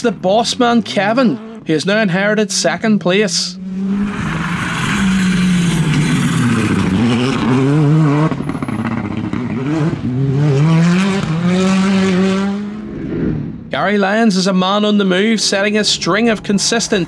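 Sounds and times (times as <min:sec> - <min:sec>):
rally car engines accelerating: 0:00.0 - 0:02.2, 0:03.3 - 0:17.0.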